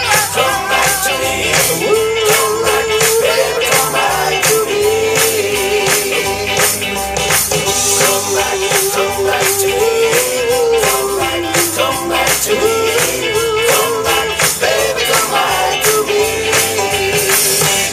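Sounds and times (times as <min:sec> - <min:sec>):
steady beat: 0:00.0 - 0:17.9.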